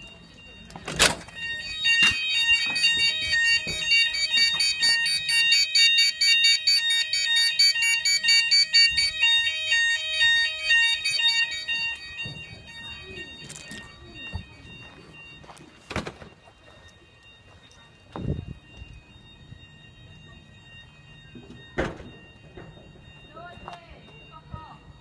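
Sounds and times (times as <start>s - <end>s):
multi-tone fire alarm: 0.0s - 25.0s.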